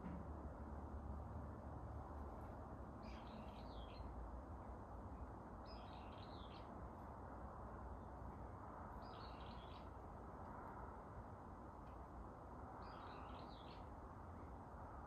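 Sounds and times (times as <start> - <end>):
wind in forest: 0.0 - 15.0.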